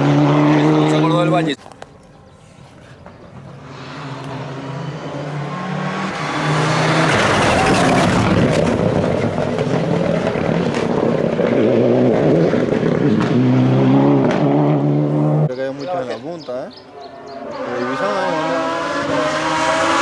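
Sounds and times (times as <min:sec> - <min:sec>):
rally car engine passing: 0:00.0 - 0:01.5, 0:03.4 - 0:15.9, 0:16.8 - 0:20.0.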